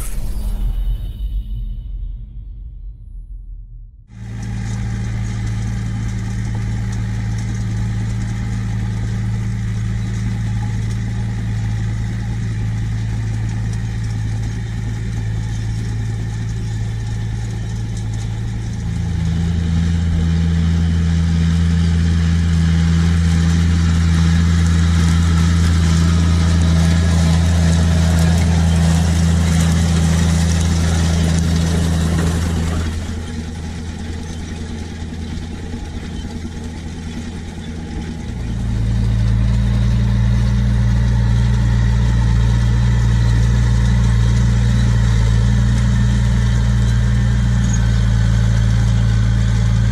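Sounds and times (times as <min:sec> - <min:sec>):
tractor diesel engine running: 0:04.1 - 0:49.9
tractor passing close: 0:04.1 - 0:49.9.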